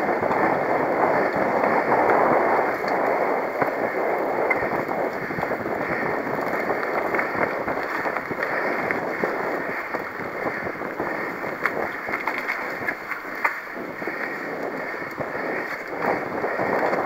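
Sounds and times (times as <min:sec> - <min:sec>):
bike rattles and clicks: 0:00.0 - 0:17.0
bike tyre noise: 0:00.0 - 0:17.0
wind on microphone: 0:00.0 - 0:17.0.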